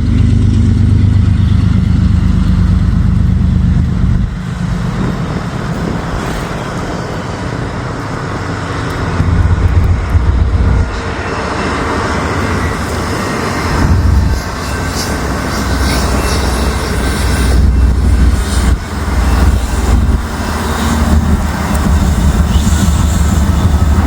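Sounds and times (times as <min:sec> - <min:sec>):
diesel locomotive engine rumbling: 0:00.0 - 0:24.0.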